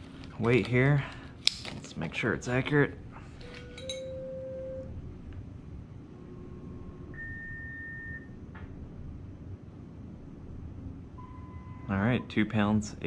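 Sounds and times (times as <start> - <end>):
room noise: 0.0 - 13.0.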